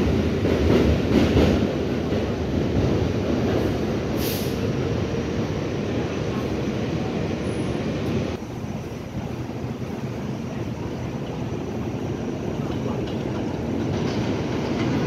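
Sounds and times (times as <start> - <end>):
subway train wheels rumbling on rails: 0.0 - 15.0.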